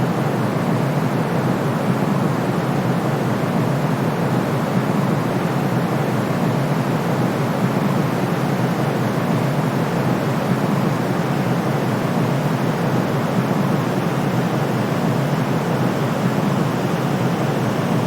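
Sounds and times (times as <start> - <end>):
steady white noise: 0.0 - 18.0.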